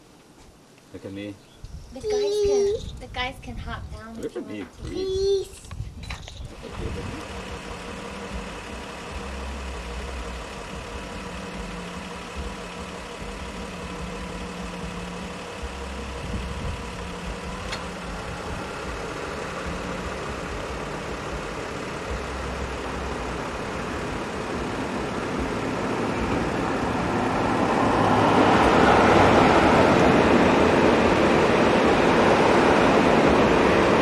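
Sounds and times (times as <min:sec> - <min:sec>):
vehicle engine idling: 0:05.2 - 0:34.0.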